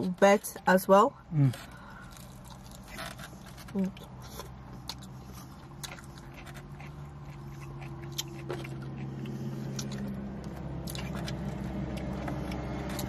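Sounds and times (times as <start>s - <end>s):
steady low hum: 0.0s - 13.0s
person chewing crunchy food: 1.3s - 13.0s.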